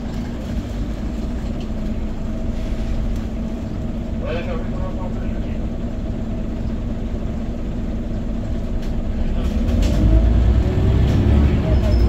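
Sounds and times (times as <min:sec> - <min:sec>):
bus diesel engine: 0:00.0 - 0:12.0.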